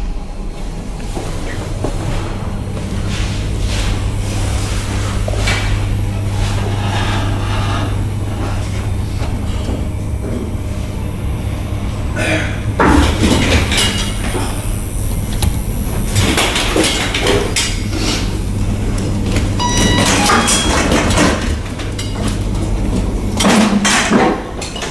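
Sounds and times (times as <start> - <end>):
elevator low hum: 0.0 - 24.9
elevator sliding doors clattering: 0.0 - 24.9.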